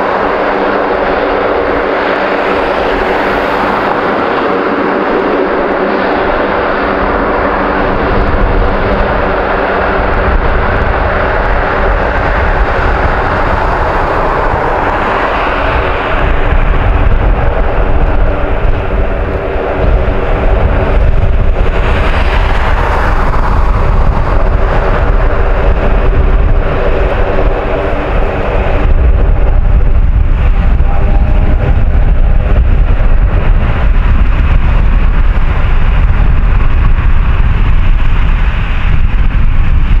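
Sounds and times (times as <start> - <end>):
turboprop engines droning: 0.0 - 40.0.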